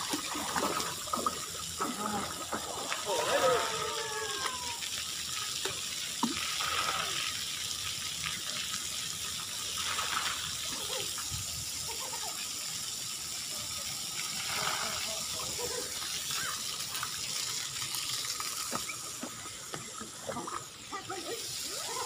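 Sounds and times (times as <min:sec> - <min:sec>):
water running and spraying: 0:00.0 - 0:22.0.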